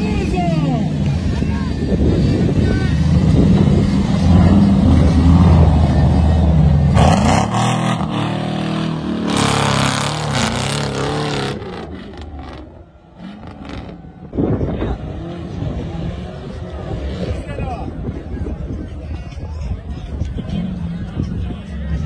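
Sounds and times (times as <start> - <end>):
suv engine working hard: 0.0 - 19.6.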